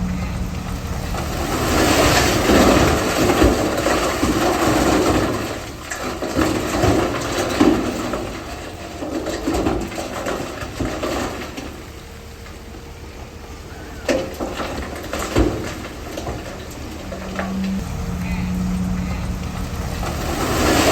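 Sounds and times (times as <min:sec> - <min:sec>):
bulldozer engine under load: 0:00.0 - 0:20.9.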